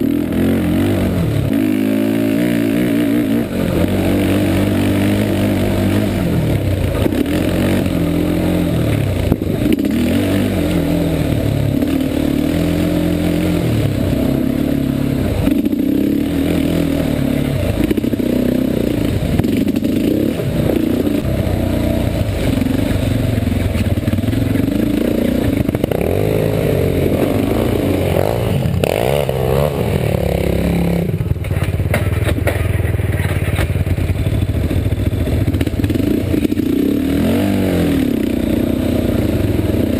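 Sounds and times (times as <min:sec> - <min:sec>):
atv engine revving: 0:00.0 - 0:39.9
quad knocking over rough trail: 0:00.0 - 0:39.9.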